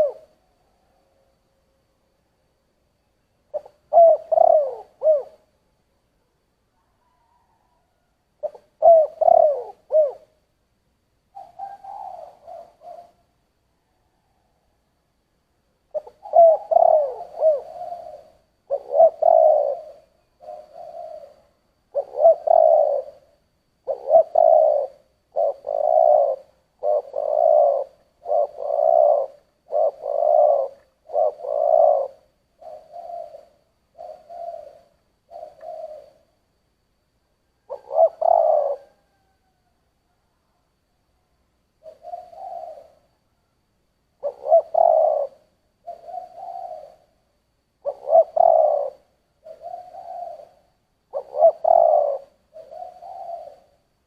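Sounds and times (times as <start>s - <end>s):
dove cooing: 0.0s - 1.4s, 3.5s - 5.6s, 6.7s - 10.4s, 11.3s - 14.8s, 15.9s - 36.4s, 37.0s - 40.7s, 41.8s - 43.5s, 44.2s - 54.0s.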